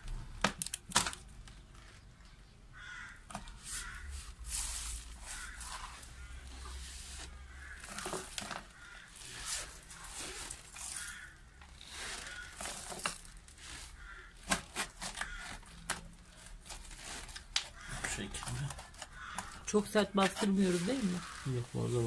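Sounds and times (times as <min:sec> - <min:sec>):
plastic bottle crinkling: 0:00.0 - 0:02.0, 0:03.2 - 0:22.0
soil rustling: 0:02.8 - 0:22.0.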